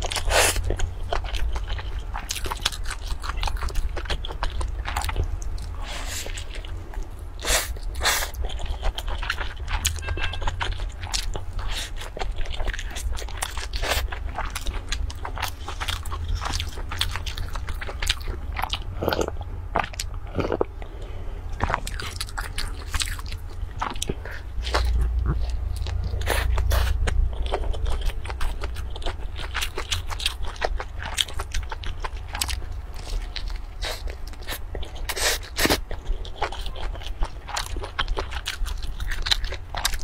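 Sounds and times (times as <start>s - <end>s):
low hum: 0.0s - 35.2s
crunchy chewing: 0.0s - 40.0s.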